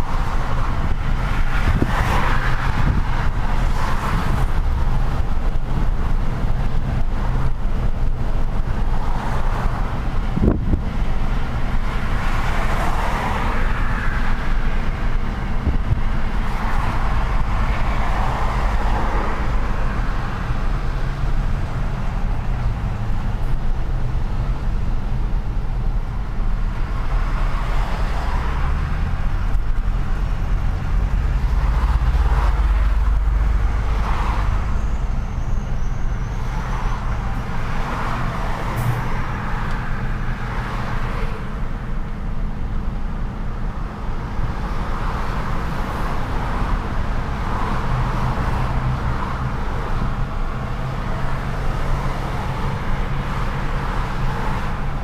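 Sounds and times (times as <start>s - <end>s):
passing traffic: 0.0s - 55.0s
truck diesel engine rumble: 0.0s - 55.0s.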